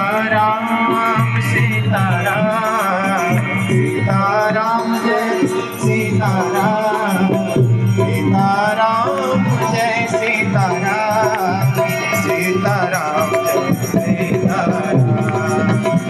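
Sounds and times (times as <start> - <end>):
hand drum: 0.0 - 16.0
rattle percussion: 0.0 - 16.0
devotional melody over drone: 1.6 - 16.0.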